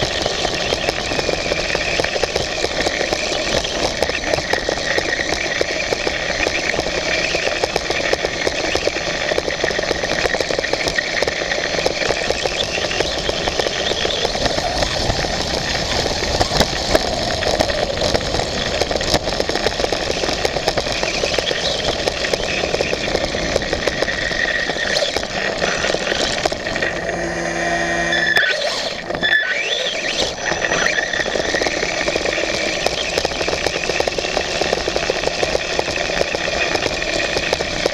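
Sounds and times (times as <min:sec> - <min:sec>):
toy motorbike motor running: 0:00.0 - 0:37.9.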